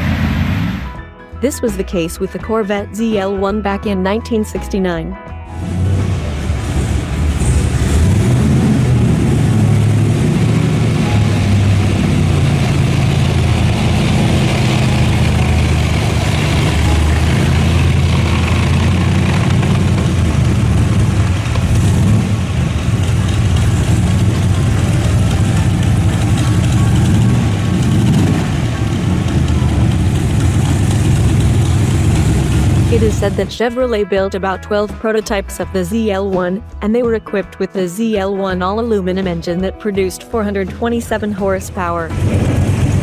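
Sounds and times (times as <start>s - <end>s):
car engine low rumble: 0.0s - 37.2s, 38.4s - 43.0s.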